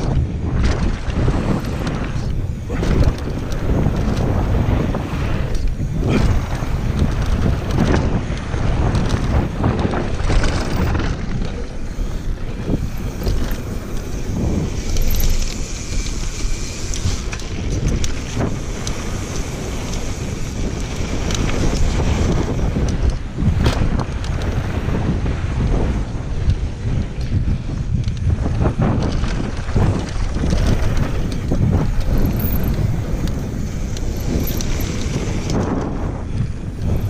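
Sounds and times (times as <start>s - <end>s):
bike knocks and rattles: 0.0s - 37.0s
tyres rumbling on gravel: 0.0s - 37.0s
wind buffeting microphone: 0.0s - 37.0s.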